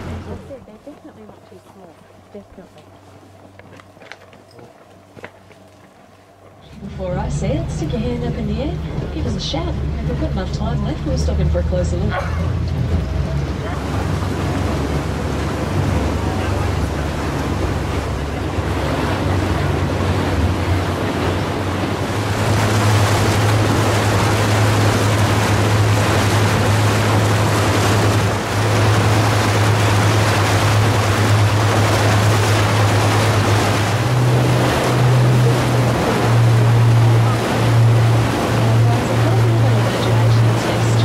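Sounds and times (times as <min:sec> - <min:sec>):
boat engine droning: 0:00.0 - 0:41.0
water rushing past hull: 0:00.0 - 0:41.0.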